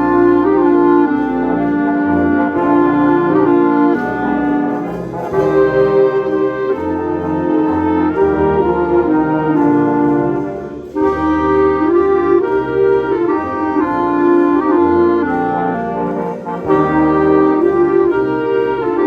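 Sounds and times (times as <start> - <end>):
wind band playing chords: 0.0 - 19.0.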